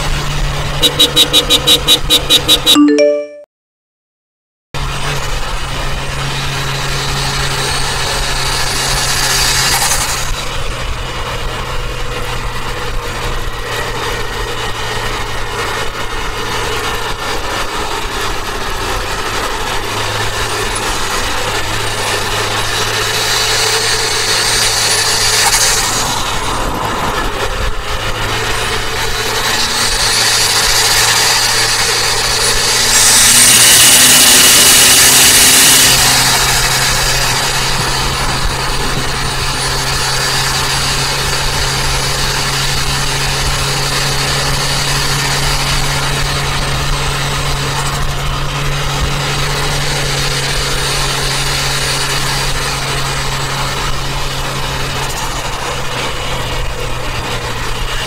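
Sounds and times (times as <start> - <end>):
car engine and road noise: 0.0 - 2.9, 4.8 - 58.0.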